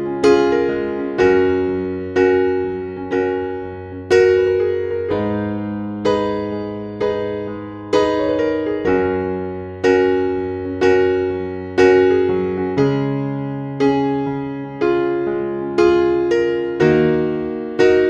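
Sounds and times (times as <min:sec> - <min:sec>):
piano chords ringing: 0:00.0 - 0:18.0.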